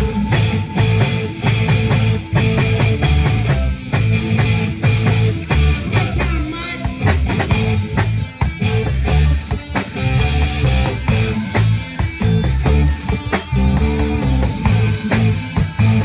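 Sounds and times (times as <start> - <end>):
bass guitar: 0.0 - 16.0
drums keeping a steady beat: 0.0 - 16.0
electric guitar: 0.0 - 16.0.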